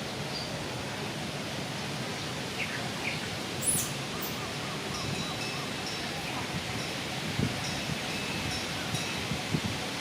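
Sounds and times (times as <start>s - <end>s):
wind through trees: 0.0s - 10.0s.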